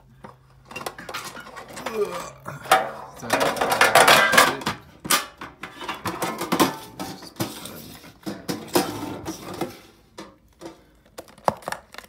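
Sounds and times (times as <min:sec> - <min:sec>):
items clinking in metal tin: 0:00.7 - 0:10.9.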